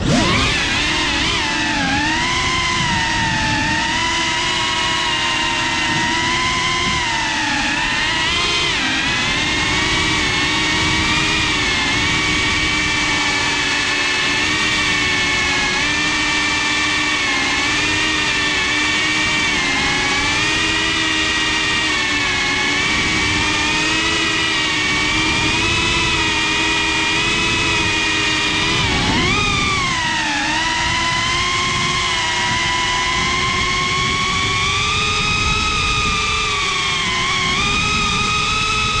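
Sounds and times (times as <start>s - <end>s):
drone propellers whining: 0.0s - 39.0s.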